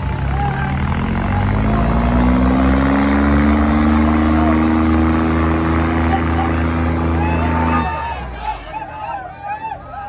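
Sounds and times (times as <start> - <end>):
tractor diesel engines at full throttle: 0.0 - 10.0.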